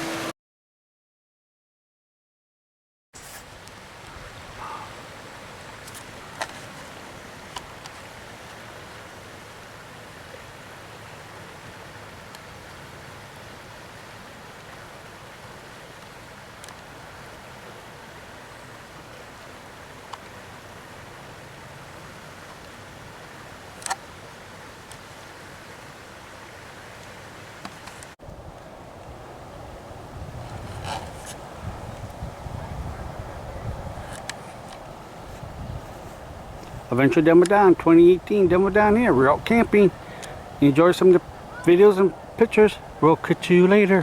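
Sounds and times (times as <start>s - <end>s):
outdoor background hiss: 0.0s - 0.3s, 3.2s - 44.0s.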